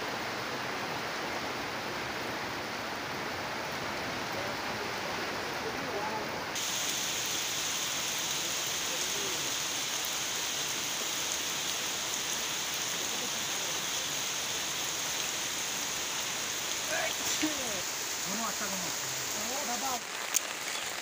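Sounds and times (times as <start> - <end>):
heavy rain on plants and ground: 0.0 - 21.0.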